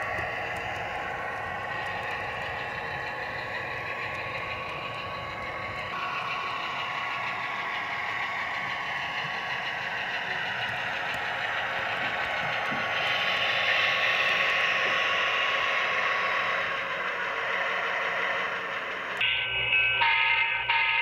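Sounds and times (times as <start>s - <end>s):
model train diesel engine drone: 0.0s - 21.0s.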